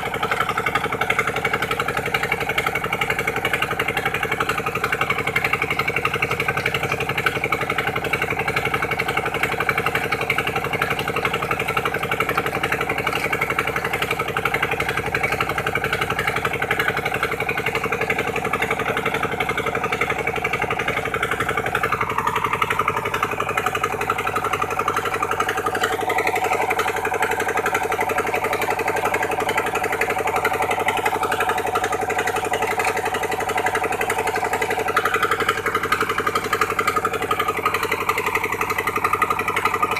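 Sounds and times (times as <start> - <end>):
pump engine running: 0.0 - 39.9.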